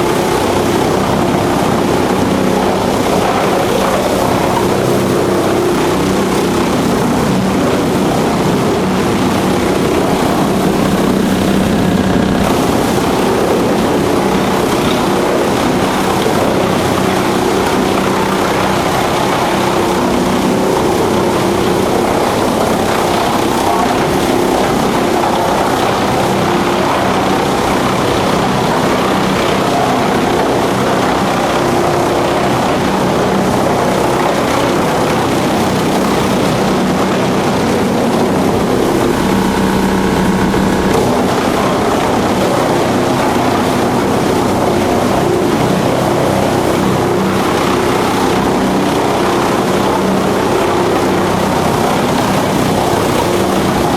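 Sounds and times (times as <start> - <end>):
wood chipper droning: 0.0 - 53.9.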